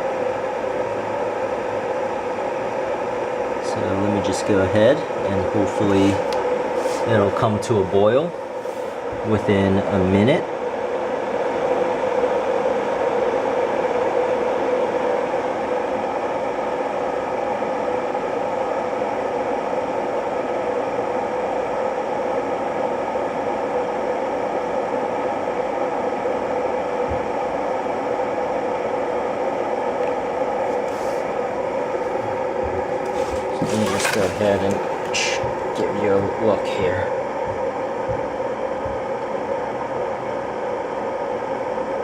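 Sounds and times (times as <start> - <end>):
electric kettle heating water: 0.0 - 42.0.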